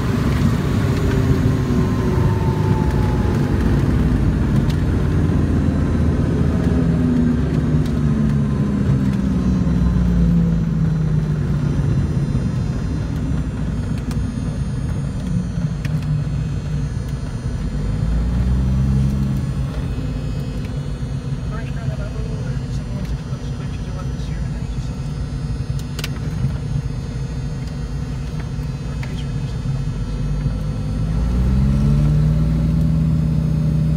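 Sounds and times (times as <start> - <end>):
aircraft propeller engines droning: 0.0 - 33.9.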